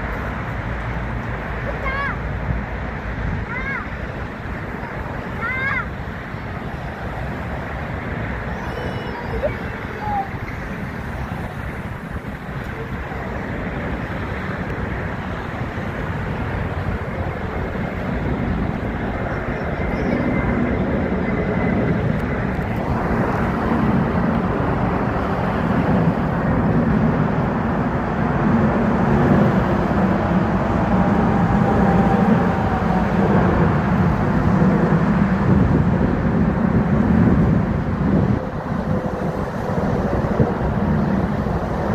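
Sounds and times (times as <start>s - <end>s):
airliner jet engines: 0.0s - 41.9s.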